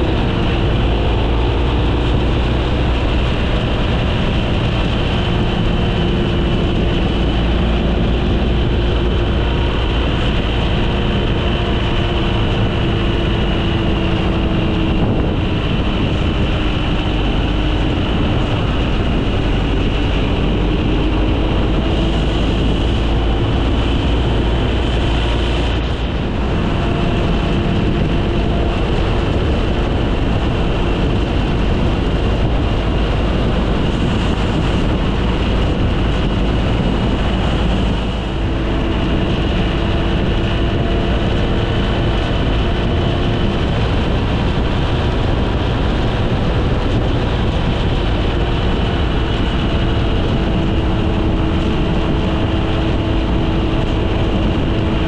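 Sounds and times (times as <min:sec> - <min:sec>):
moving vehicle rumble: 0:00.0 - 0:55.0.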